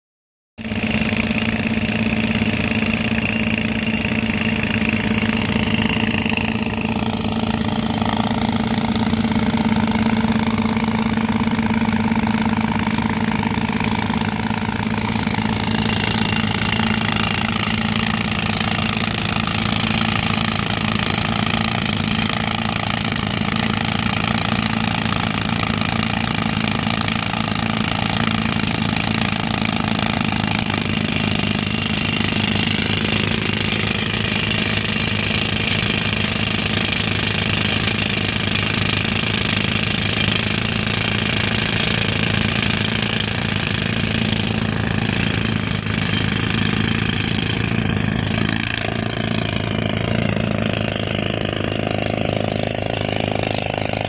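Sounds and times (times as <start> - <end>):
pneumatic rock drill hammering: 0.6 - 54.0
tractor engine running: 0.6 - 54.0.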